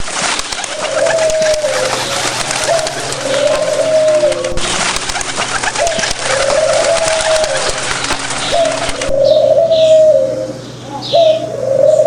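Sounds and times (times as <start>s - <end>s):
steady background hiss: 0.0s - 12.0s
bird cooing: 0.2s - 12.0s.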